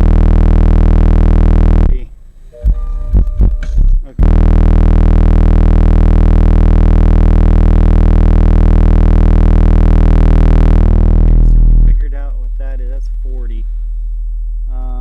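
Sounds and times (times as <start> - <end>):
subwoofer bass test tone: 0.0 - 15.0.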